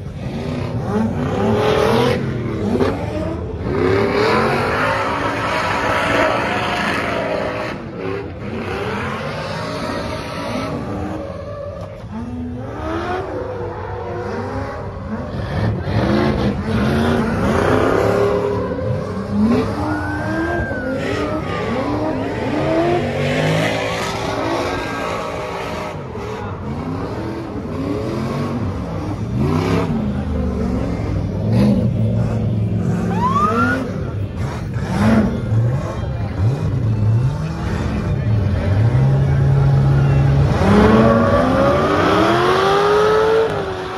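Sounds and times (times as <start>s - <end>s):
vehicle engines revving: 0.0s - 43.9s.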